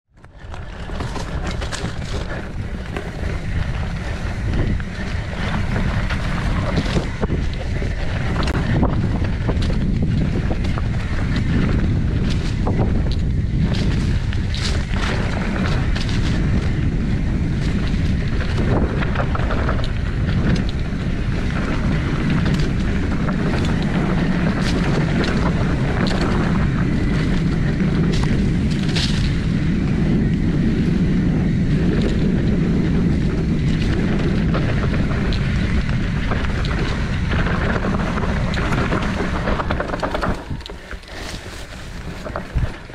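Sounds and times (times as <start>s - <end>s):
bike rattling: 0.1s - 42.9s
bike tyres rumbling over dirt: 0.1s - 42.9s
wind buffeting microphone: 0.1s - 42.9s.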